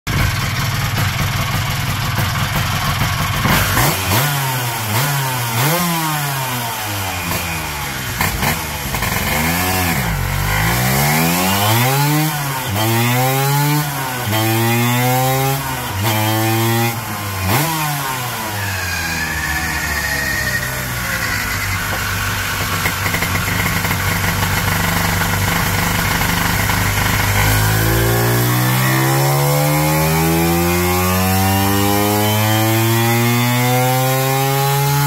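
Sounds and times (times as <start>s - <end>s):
scooter engine idling and revving: 0.1s - 35.0s.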